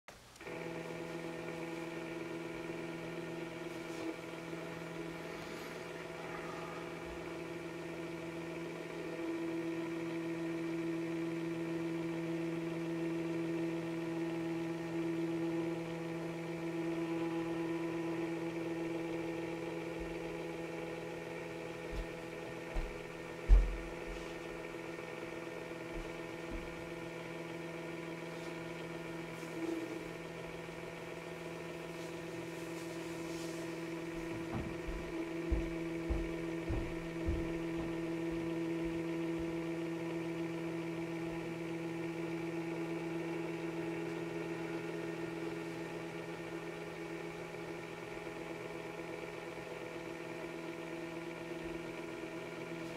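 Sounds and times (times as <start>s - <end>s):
electric motor humming: 0.4s - 52.9s.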